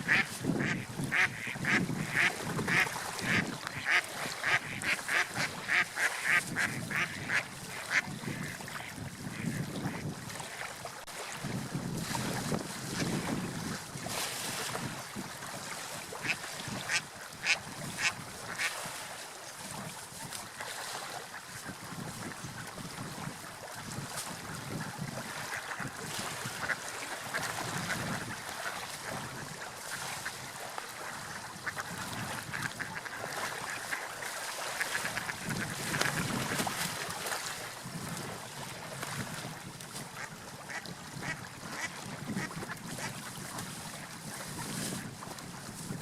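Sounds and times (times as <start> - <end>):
sea waves washing: 0.0 - 46.0.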